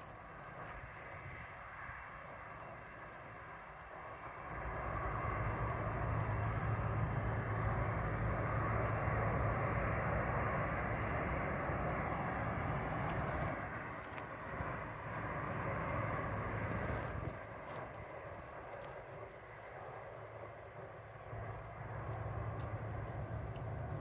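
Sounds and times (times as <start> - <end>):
jet engine roar overhead: 0.0 - 24.0.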